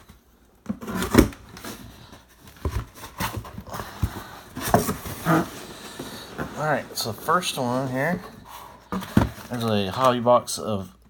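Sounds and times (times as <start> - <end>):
cardboard box rustling and scraping: 0.6 - 9.8.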